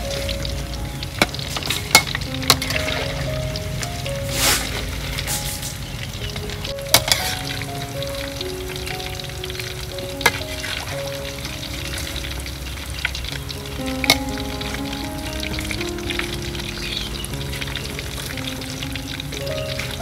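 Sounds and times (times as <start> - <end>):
background music: 0.0 - 20.0
fish sizzling in hot oil: 0.0 - 20.0.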